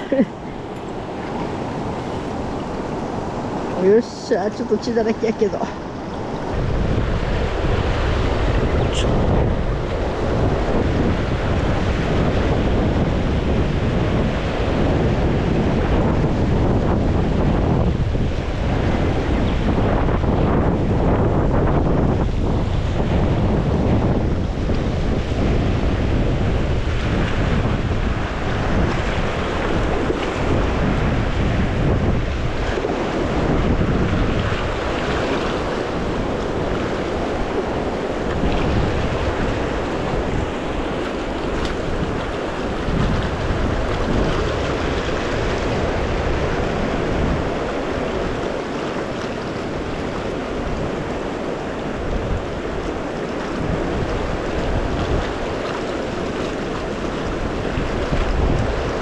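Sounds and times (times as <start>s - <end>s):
river water rushing over rapids: 0.0s - 59.0s
wind buffeting microphone: 0.0s - 59.0s.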